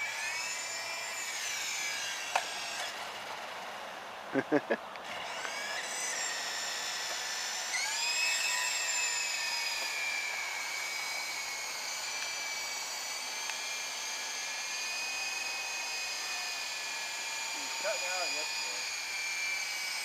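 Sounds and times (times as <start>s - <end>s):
toy helicopter motors whining: 0.0s - 20.0s.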